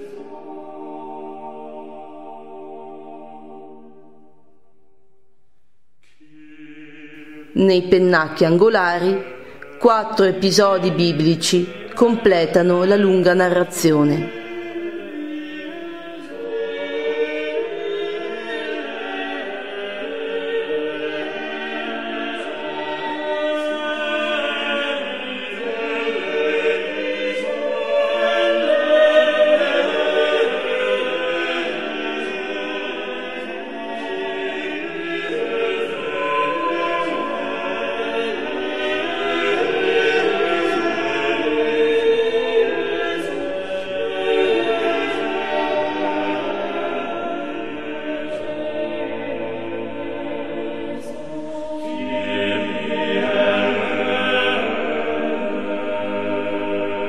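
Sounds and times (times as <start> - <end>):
choir singing held notes: 0.0 - 4.5, 6.0 - 57.0.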